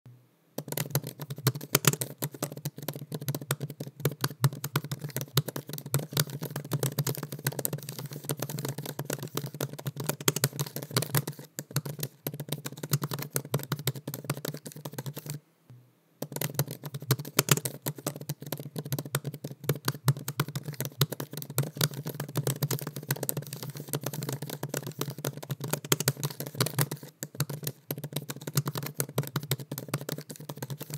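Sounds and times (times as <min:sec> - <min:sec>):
laptop keyboard typing: 0:00.6 - 0:15.4, 0:16.2 - 0:30.9.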